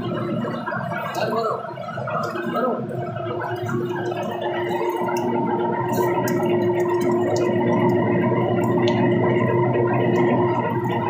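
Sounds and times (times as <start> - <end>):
oil gurgling into tray: 0.0 - 11.0
oil press machine humming: 0.0 - 11.0.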